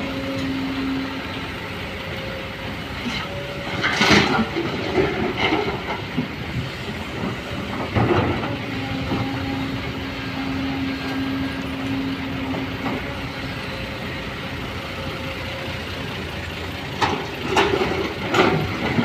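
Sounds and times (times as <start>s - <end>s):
large vehicle engine rumbling: 0.0s - 19.0s.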